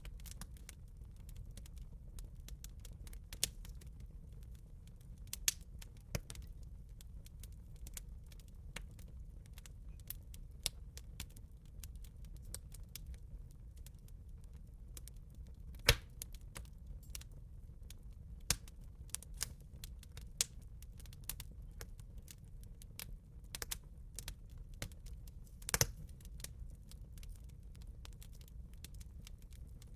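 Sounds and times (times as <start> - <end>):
campfire crackling: 0.0 - 29.9.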